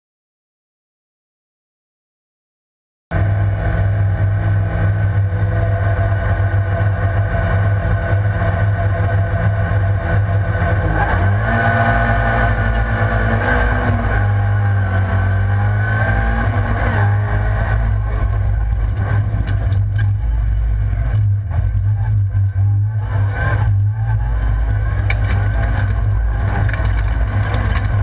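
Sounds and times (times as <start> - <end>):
car engine running hard: 3.1 - 28.0.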